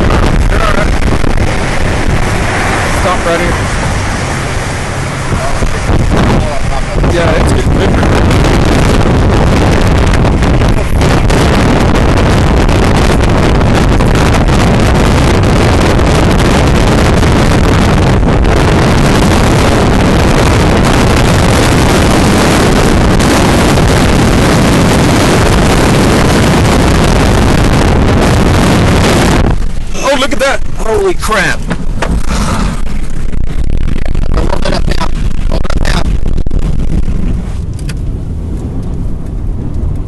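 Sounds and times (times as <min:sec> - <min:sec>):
strong wind roaring on microphone: 0:00.0 - 0:40.0.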